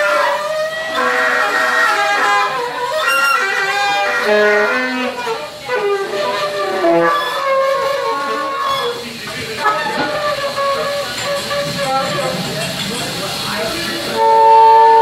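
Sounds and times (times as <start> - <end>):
saxophones holding long notes: 0.0 - 12.4, 14.0 - 15.0.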